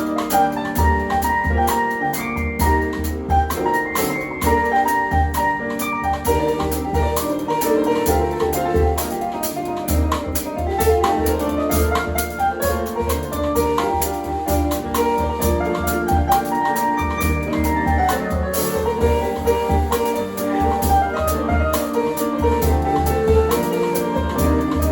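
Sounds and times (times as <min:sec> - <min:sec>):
drum kit beat: 0:00.0 - 0:24.9
small jazz band playing live: 0:00.0 - 0:24.9.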